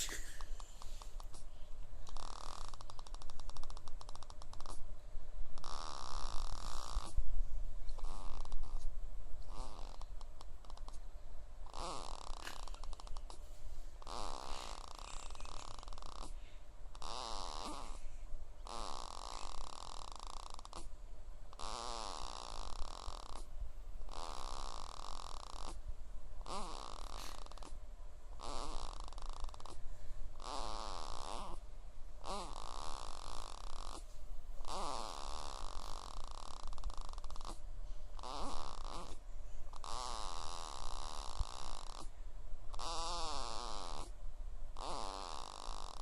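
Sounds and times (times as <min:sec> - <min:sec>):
baby snoring: 0:00.0 - 0:01.5, 0:02.1 - 0:04.8, 0:05.6 - 0:07.2, 0:07.9 - 0:08.9, 0:09.5 - 0:11.0, 0:11.7 - 0:23.5, 0:24.1 - 0:25.8, 0:26.4 - 0:42.1, 0:42.7 - 0:44.2, 0:44.8 - 0:46.0.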